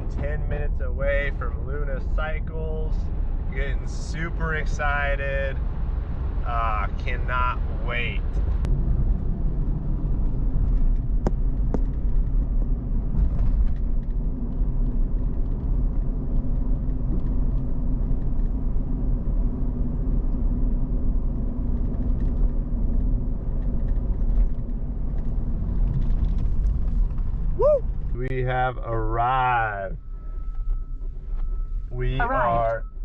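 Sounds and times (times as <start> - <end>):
road noise: 0.0 - 33.0
truck engine rumble: 0.0 - 33.0.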